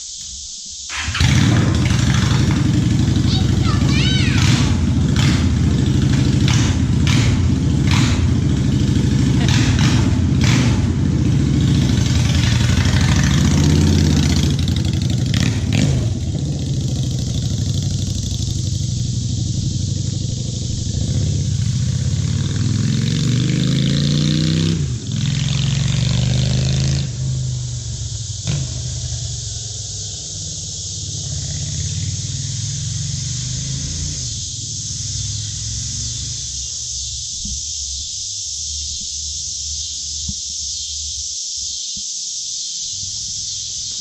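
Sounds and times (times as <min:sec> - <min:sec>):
motorcycle engine revving: 0:00.9 - 0:41.1.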